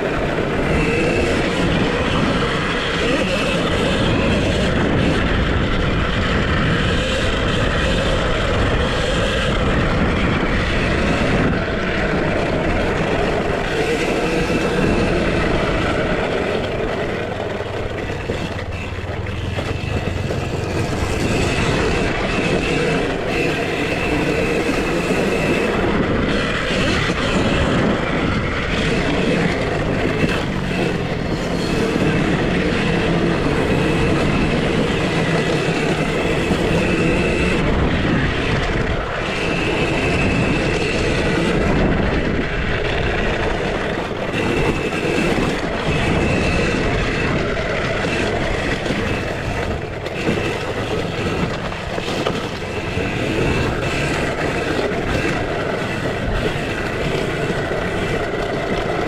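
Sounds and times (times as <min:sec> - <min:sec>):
electric motocross bike riding: 0:00.0 - 0:59.0
high motor whine: 0:00.0 - 0:59.0.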